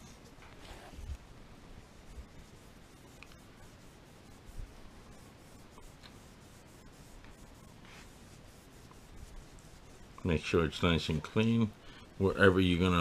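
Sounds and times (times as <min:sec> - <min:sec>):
cotton pad wiping metal: 0:01.9 - 0:13.0.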